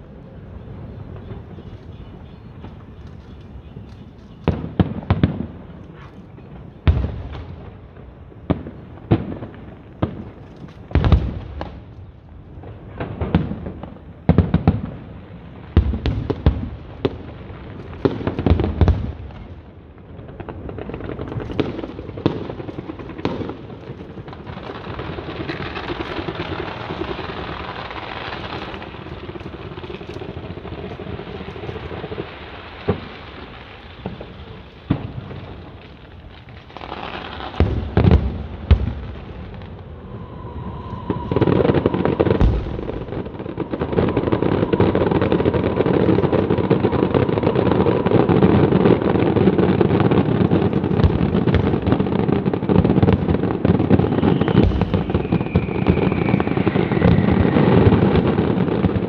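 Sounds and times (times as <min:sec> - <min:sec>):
fireworks crackling: 0:00.0 - 0:59.0
fireworks booms and bangs: 0:00.6 - 0:59.0.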